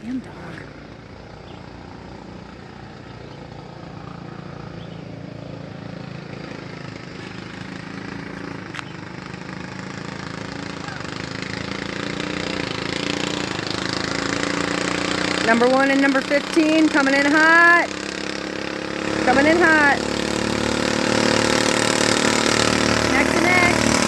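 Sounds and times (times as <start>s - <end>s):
small gasoline engines running: 0.0s - 24.0s.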